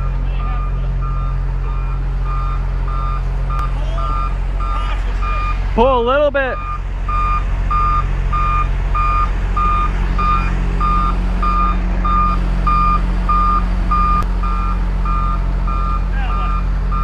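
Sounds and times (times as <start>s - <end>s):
backup alarm beeping: 0.0s - 5.6s, 6.5s - 17.0s
diesel engine running: 0.0s - 17.0s.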